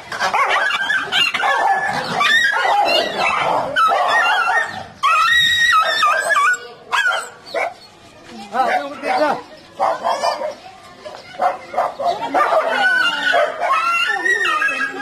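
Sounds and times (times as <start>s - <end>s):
dogs yelping and crying: 0.1s - 10.6s, 11.3s - 15.0s.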